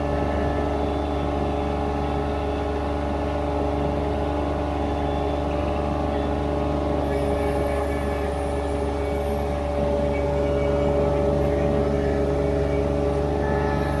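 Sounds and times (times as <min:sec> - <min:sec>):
skid steer engine running: 0:00.0 - 0:14.0.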